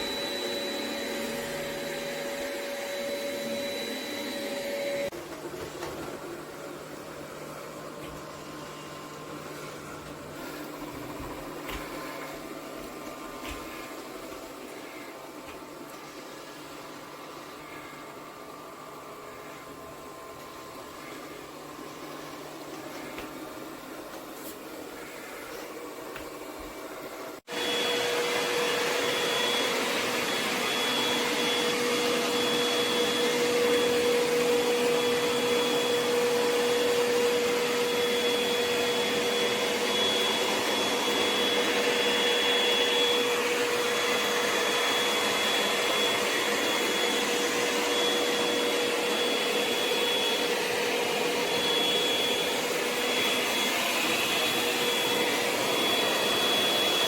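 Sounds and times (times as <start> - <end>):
robot vacuum running: 0.0 - 14.6, 25.0 - 57.0.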